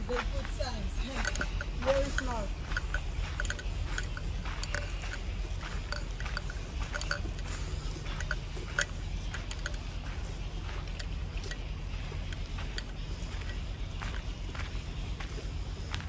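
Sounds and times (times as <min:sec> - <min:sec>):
footsteps crunching on dirt path: 0:00.0 - 0:16.0
low wind rumble on microphone: 0:00.0 - 0:16.0.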